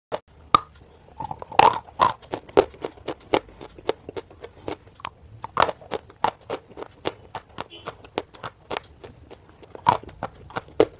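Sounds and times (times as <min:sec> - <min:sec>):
chalk crunching in mouth: 0:00.4 - 0:10.9.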